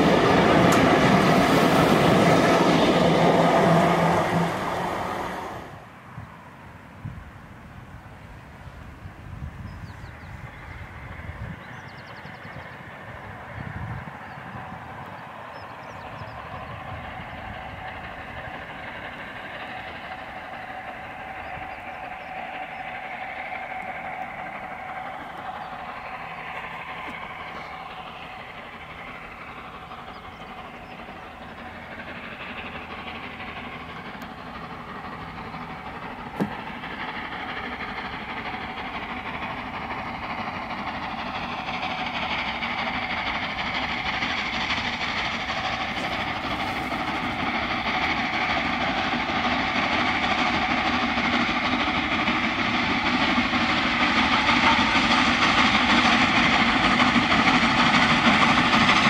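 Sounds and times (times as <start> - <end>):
steam locomotive exhaust: 0.0 - 59.0
train running noise: 0.0 - 59.0.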